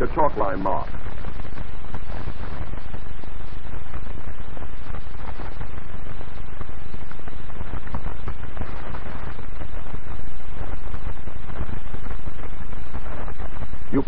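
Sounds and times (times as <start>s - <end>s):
film soundtrack crackle and hiss: 0.0s - 14.0s.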